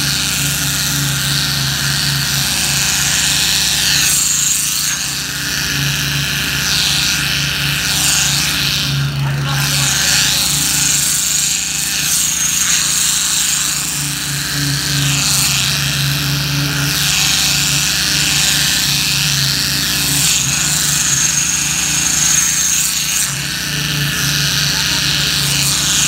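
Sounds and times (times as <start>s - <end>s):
concrete vibrator humming: 0.0s - 26.0s
high whine: 0.0s - 26.0s
vibrator needle buzzing in concrete: 0.0s - 26.0s.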